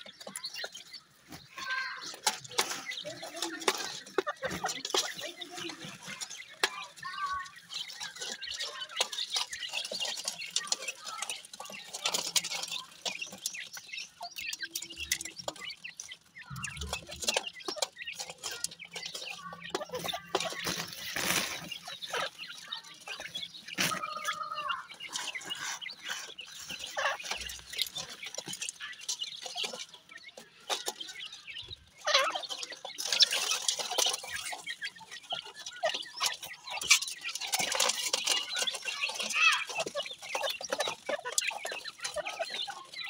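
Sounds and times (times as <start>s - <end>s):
birds pecking on grit: 0.0s - 43.0s.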